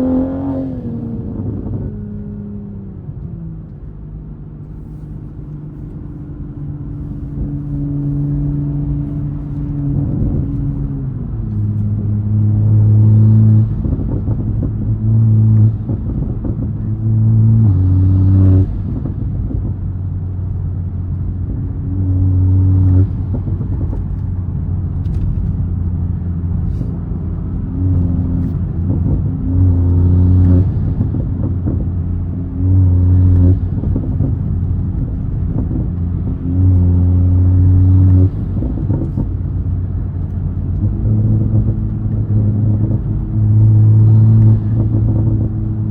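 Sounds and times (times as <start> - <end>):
car engine and exhaust drone: 0.0 - 45.9.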